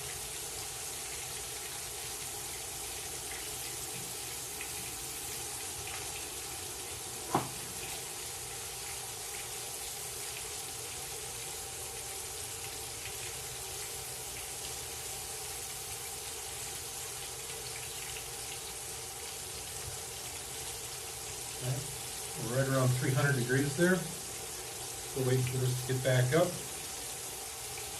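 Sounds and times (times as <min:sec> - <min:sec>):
fish deep-frying sizzle: 0:00.0 - 0:27.9.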